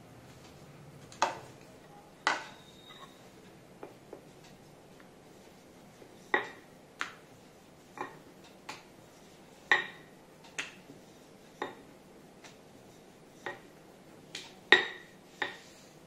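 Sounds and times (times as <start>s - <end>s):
rolling pin rolling dough: 1.2s - 16.0s.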